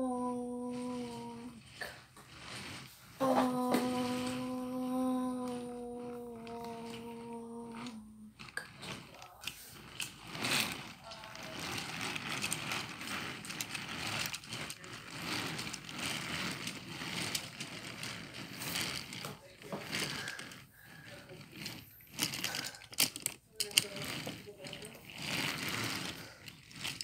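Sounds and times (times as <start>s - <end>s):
toy train clattering: 0.6s - 27.0s.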